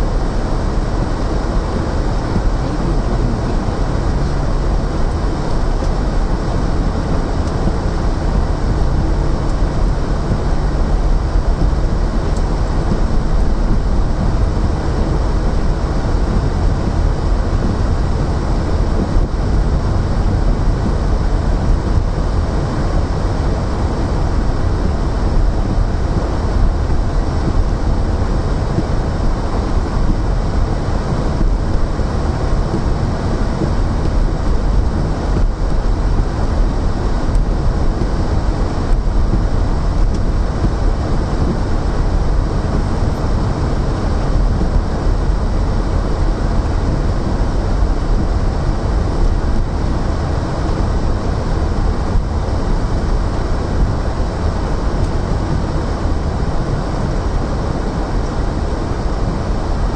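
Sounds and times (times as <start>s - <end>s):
car driving on snowy road: 0.0s - 59.9s.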